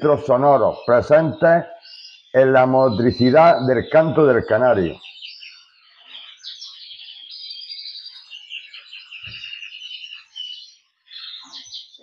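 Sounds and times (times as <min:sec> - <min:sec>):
canaries trilling and chirping: 0:00.0 - 0:12.0.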